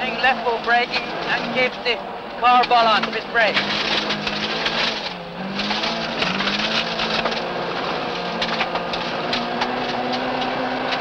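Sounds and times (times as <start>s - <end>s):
car engine revving: 0.0s - 11.0s
gravel rushing under tires: 0.0s - 11.0s.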